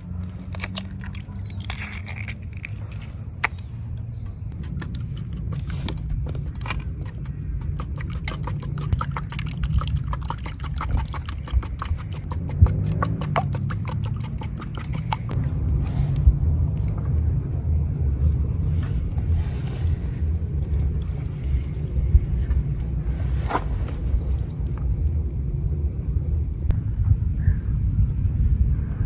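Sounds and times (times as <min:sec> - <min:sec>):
wind buffeting microphone: 0:03.2 - 0:29.0.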